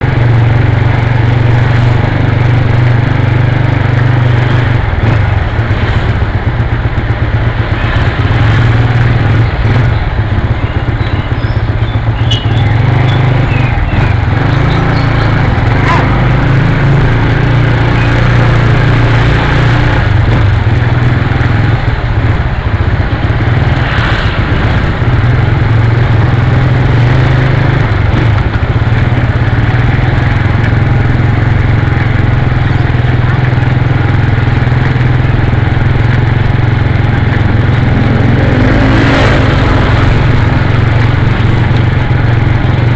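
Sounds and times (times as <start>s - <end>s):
constant rushing noise: 0.0s - 42.9s
motorcycle engine running: 0.0s - 42.9s.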